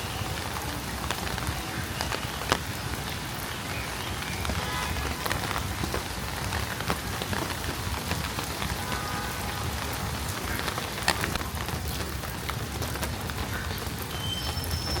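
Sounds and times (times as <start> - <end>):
raindrops ticking close by: 0.0 - 15.0
steady rain falling: 0.0 - 15.0.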